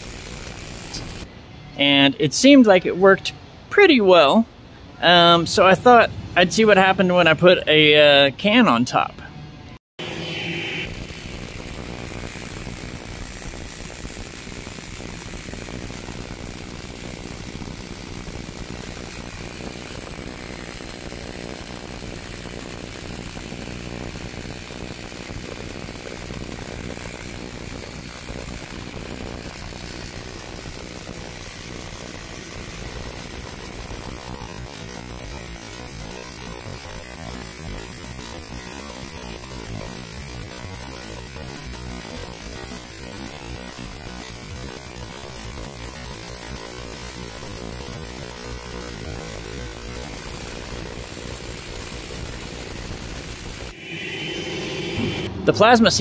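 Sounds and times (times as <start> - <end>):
tesla coil spark discharge: 0.0 - 2.8, 10.0 - 56.0.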